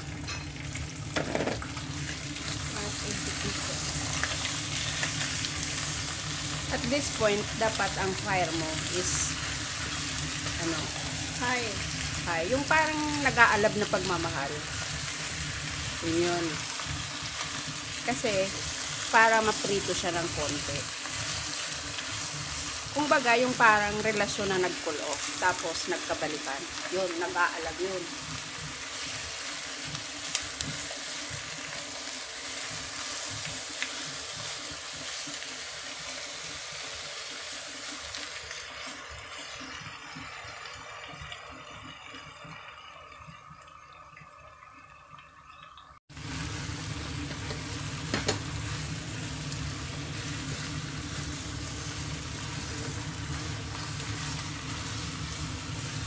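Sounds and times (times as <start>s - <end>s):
chicken sizzling in a pot: 0.0s - 56.0s.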